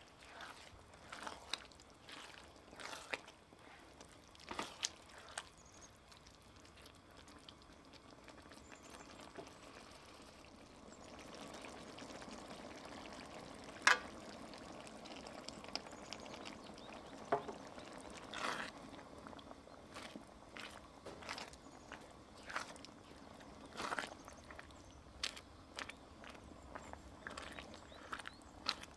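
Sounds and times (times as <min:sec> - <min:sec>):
cream poured into simmering sauce: 0:00.0 - 0:28.9.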